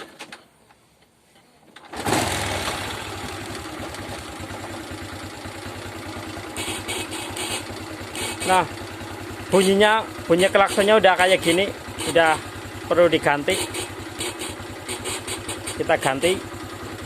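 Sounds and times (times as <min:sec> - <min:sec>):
motorcycle engine idling: 0:02.0 - 0:17.0.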